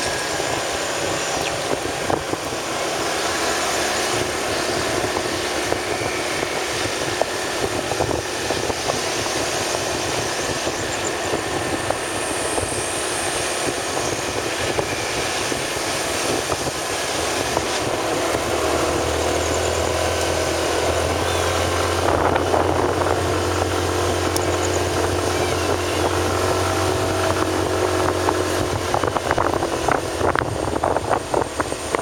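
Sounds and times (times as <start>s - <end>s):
low steady drone: 0.0s - 32.0s
motorcycle engine at speed: 0.0s - 32.0s
wind on microphone: 0.0s - 32.0s.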